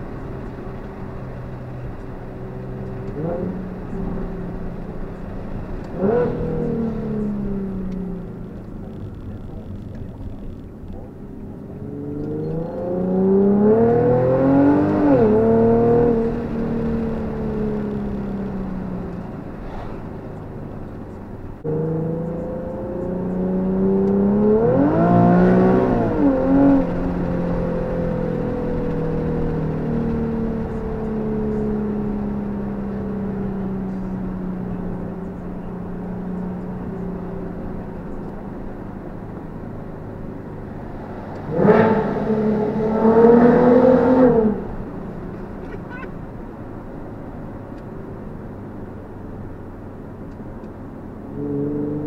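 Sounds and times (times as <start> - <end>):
car engine revving in cabin: 0.0 - 52.0.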